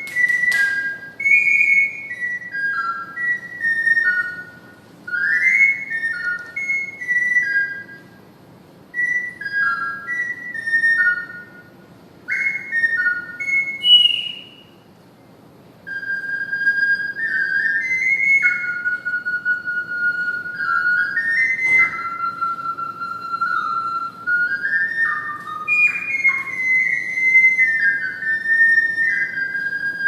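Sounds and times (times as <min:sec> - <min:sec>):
ocarina playing a slow melody: 0:00.0 - 0:14.9, 0:15.9 - 0:30.0.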